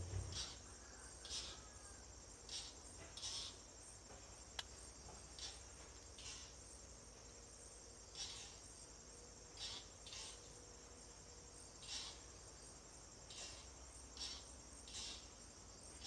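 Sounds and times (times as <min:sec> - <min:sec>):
insect high trill: 0:00.0 - 0:16.0
raspy insect chirps: 0:00.1 - 0:16.0.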